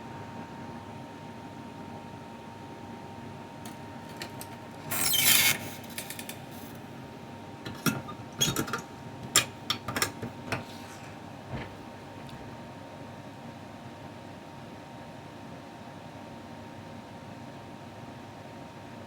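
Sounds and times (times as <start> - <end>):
steady background hum: 0.0 - 15.3.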